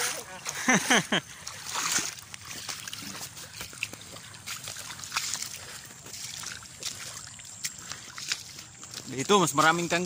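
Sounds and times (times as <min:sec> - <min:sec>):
small splashes and clicks: 0:00.0 - 0:10.0
water sloshing while wading: 0:00.0 - 0:10.0.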